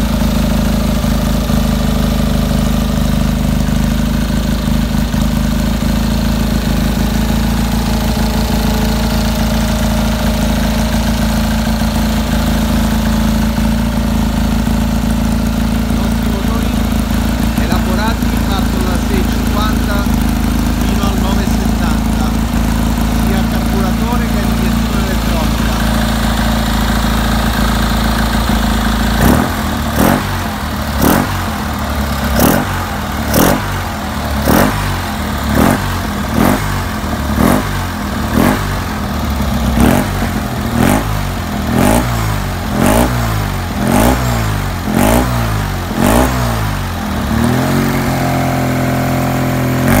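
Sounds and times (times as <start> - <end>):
car engine revving: 4.2 - 50.0.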